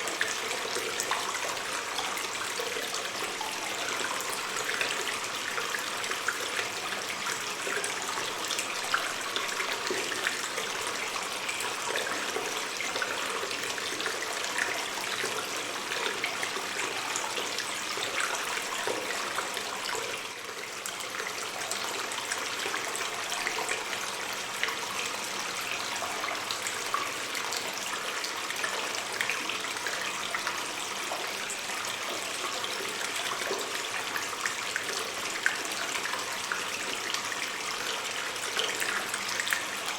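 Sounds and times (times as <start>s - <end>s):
water drips and splashes: 0.0s - 39.9s.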